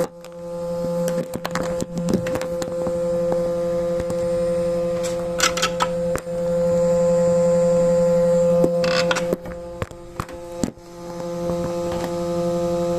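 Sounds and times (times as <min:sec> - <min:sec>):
headlight electrical buzz: 0:00.0 - 0:12.9.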